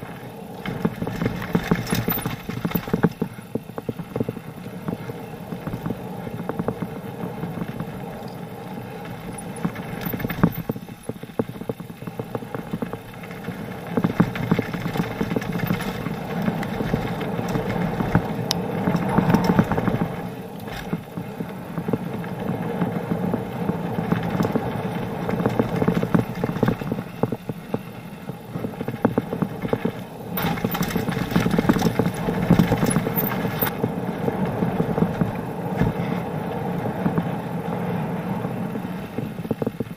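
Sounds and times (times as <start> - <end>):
mountain bike rattling on gravel: 0.0 - 39.9.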